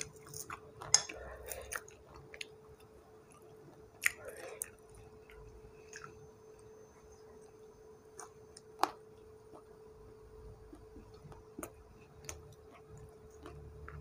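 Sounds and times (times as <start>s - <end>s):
person chewing food: 0.0s - 9.8s, 10.4s - 14.0s
faint steady hum: 0.0s - 14.0s.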